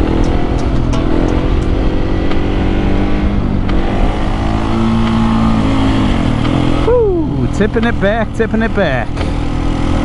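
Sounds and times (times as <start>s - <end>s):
motorcycle engine under throttle: 0.0s - 10.0s.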